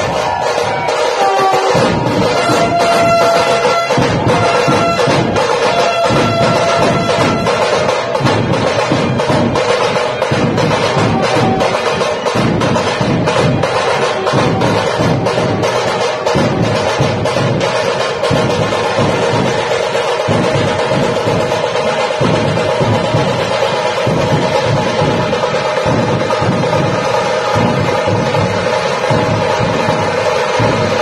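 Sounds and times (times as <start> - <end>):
drum troupe playing fast rhythm: 0.0 - 31.0.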